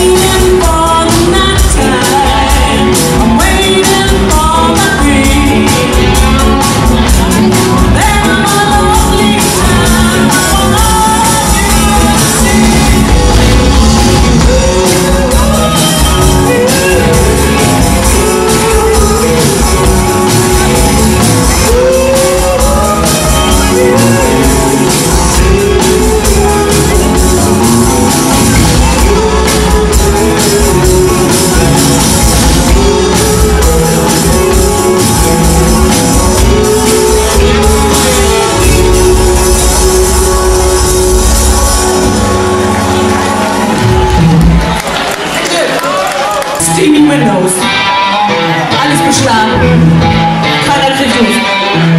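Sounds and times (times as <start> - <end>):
drum kit: 0.0 - 51.3
bass guitar: 0.0 - 51.9
bending lead guitar line: 0.0 - 51.9
electric guitars: 0.0 - 51.9.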